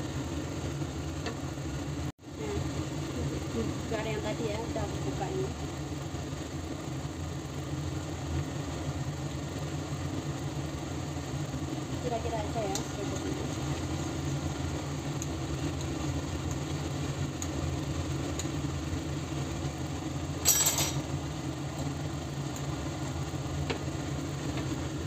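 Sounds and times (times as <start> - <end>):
induction hob humming: 0.0 - 25.0.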